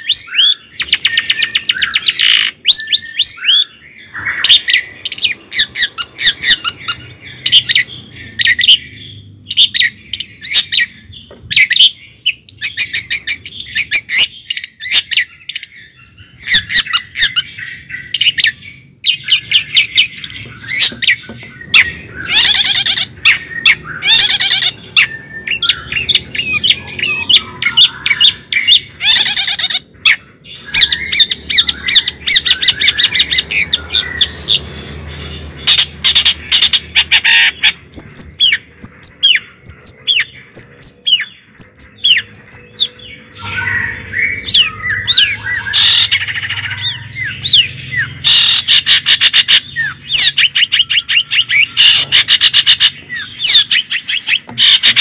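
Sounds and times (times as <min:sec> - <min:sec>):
bird chirping and squawking: 0:00.0 - 0:55.0.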